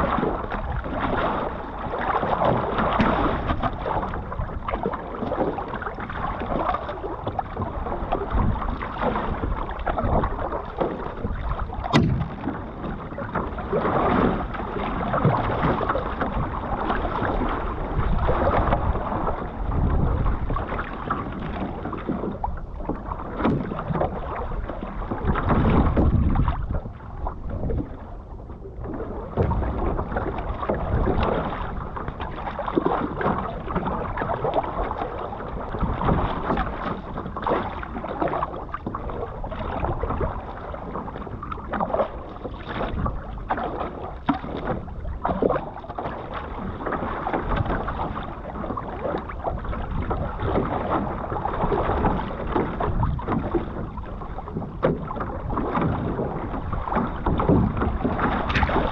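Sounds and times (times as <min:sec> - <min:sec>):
paddle strokes splashing: 0:00.0 - 0:58.9
water splashing against canoe hull: 0:00.0 - 0:58.9.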